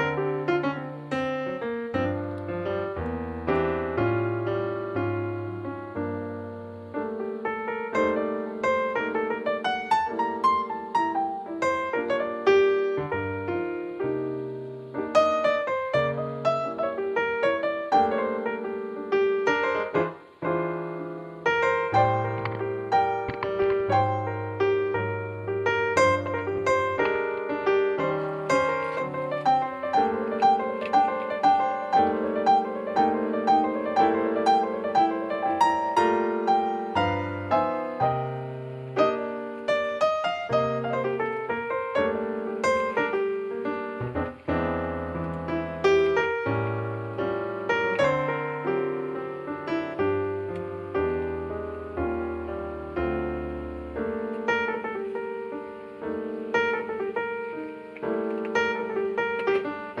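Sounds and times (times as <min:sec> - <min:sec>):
piano music: 0:00.0 - 1:00.0.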